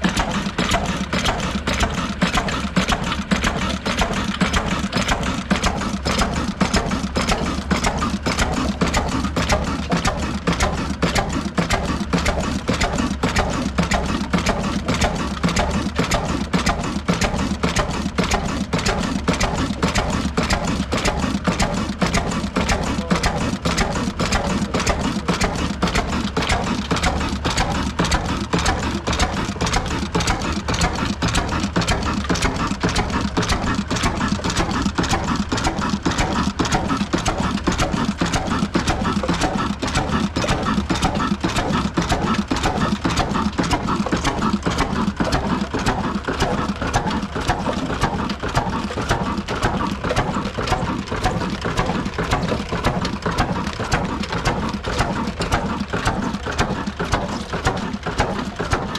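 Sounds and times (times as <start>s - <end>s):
diesel engine running: 0.0s - 58.9s
flour mill clatter: 0.0s - 58.9s.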